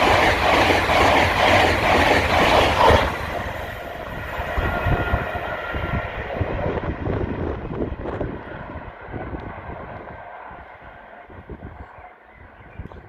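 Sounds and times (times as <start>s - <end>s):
passenger train passing: 0.0s - 13.0s.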